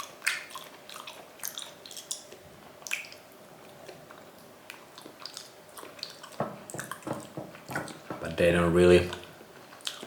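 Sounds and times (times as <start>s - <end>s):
person chewing wetly: 0.0s - 8.0s, 9.1s - 10.0s.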